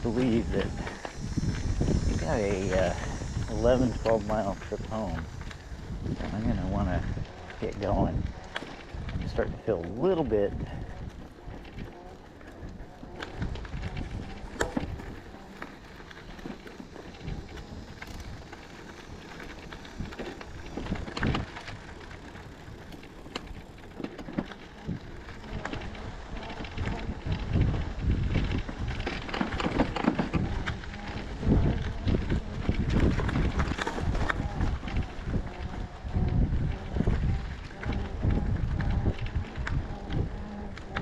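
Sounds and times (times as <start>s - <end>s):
bicycle tyre noise: 0.0s - 41.0s
wind buffeting microphone: 0.0s - 41.0s.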